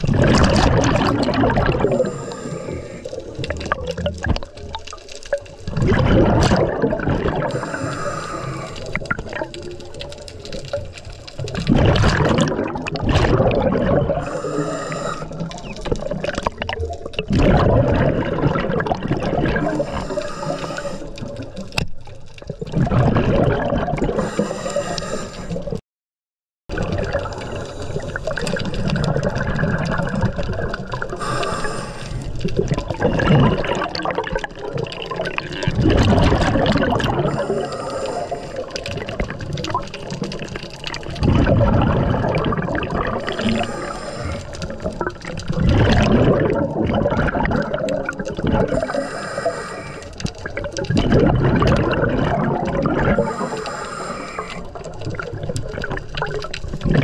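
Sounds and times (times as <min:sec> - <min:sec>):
exhaled bubbles underwater: 0:00.0 - 0:25.8, 0:26.7 - 0:57.0.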